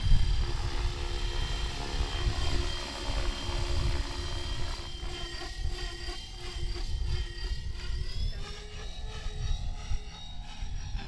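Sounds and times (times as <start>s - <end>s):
rc helicopter motor whine: 0.0s - 11.0s
wind on microphone: 0.0s - 11.0s.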